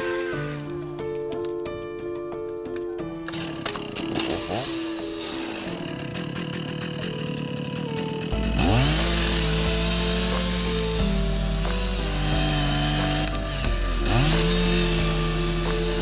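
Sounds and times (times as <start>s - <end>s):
chainsaw cutting tree trunk: 0.0s - 0.7s, 3.3s - 16.0s.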